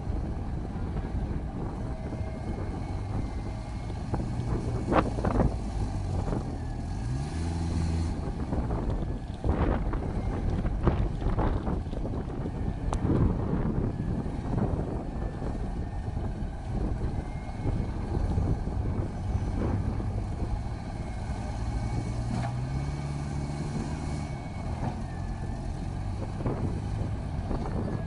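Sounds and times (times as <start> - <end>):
heavy diesel engine under load: 0.0 - 28.0.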